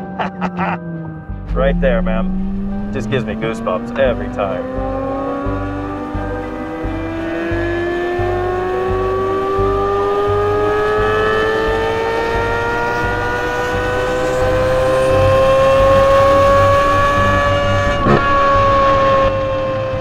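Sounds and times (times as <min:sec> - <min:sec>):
car engine accelerating hard: 0:00.8 - 0:20.0.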